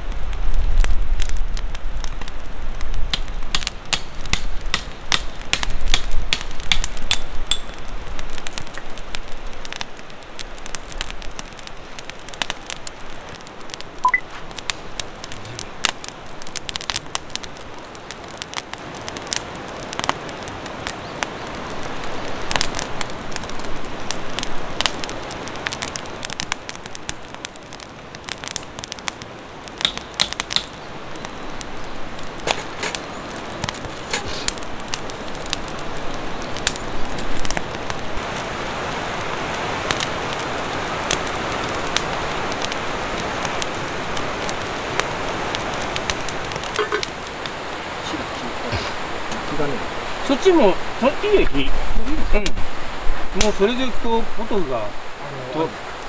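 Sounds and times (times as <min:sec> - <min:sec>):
burning logs popping: 0:00.0 - 0:56.0
wood fire crackling: 0:00.0 - 0:56.0.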